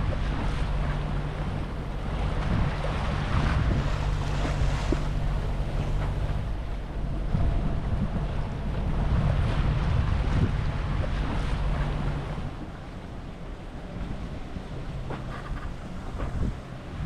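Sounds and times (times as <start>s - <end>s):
water rushing along hulls: 0.0s - 17.0s
wind buffeting microphone: 0.0s - 17.0s.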